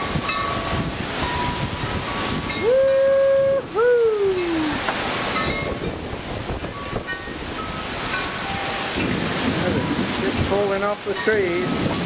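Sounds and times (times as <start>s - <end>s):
gusting wind: 0.0s - 12.0s
heavy rain pouring: 0.0s - 12.0s.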